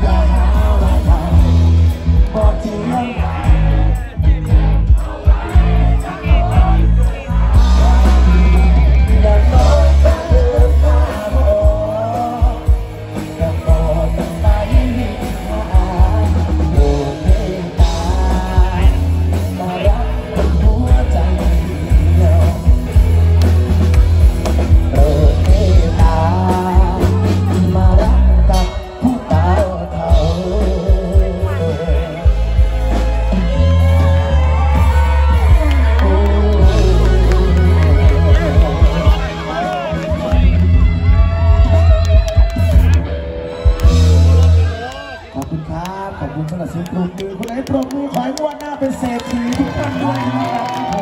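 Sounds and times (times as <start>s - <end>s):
man singing into a microphone: 0.0s - 23.6s, 24.5s - 43.0s
drums: 0.0s - 51.0s
electric bass: 0.0s - 51.0s
electric guitar: 0.0s - 51.0s.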